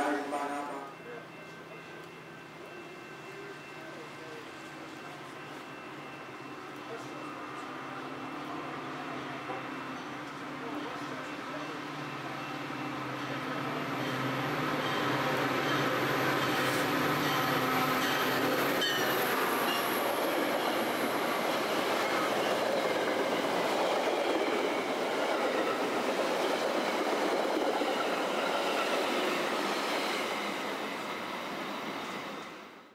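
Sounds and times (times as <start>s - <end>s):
train wheels rushing on rails: 0.0s - 32.8s.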